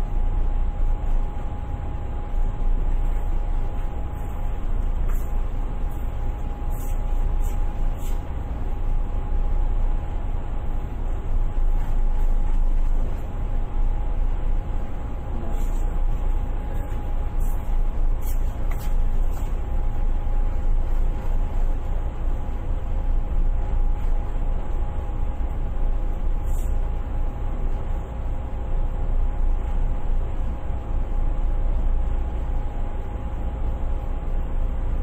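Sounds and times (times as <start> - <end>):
faint constant tones: 0.0 - 35.0
ship engine low rumble: 0.0 - 35.0.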